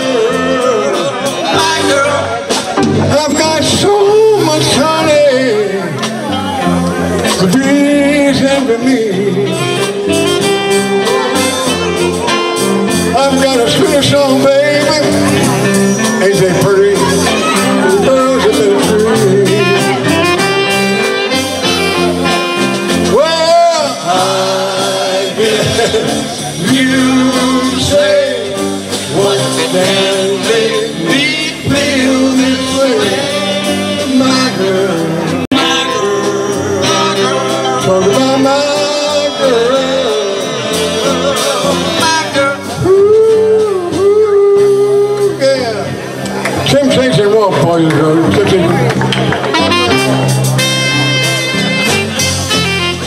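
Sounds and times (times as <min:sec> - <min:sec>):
man singing into a microphone: 0:00.0 - 0:20.6, 0:22.9 - 0:46.0
live band playing: 0:00.0 - 0:53.0.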